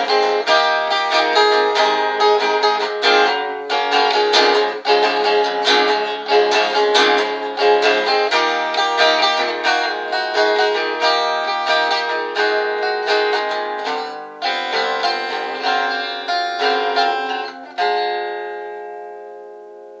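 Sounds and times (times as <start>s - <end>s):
guitar strumming chords: 0.0s - 20.0s.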